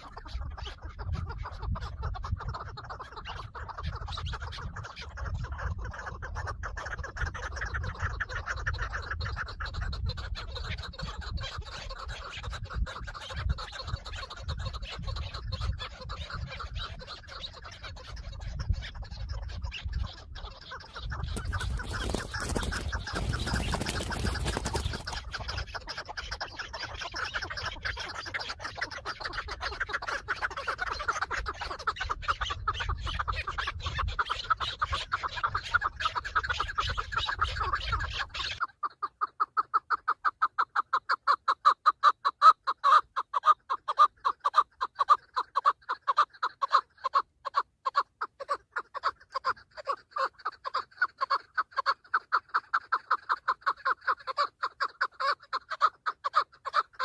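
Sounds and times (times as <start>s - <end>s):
partridges calling: 0.0s - 57.0s.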